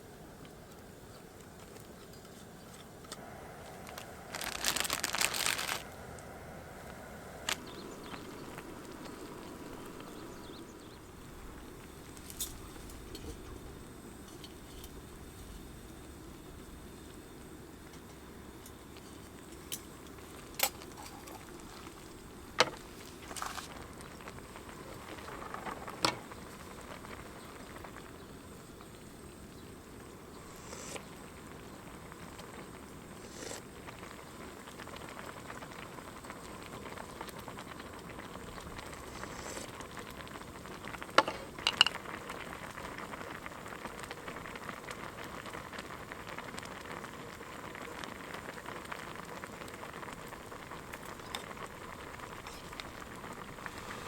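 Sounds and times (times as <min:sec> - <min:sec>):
food sizzling and bubbling: 0:00.0 - 0:54.0.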